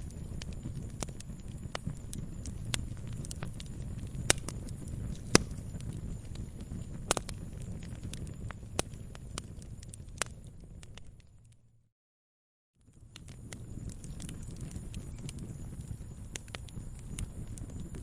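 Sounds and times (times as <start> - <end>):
wood fire rumbling: 0.0 - 11.6, 12.8 - 18.0
fire crackling and popping: 0.0 - 11.7, 12.8 - 18.0.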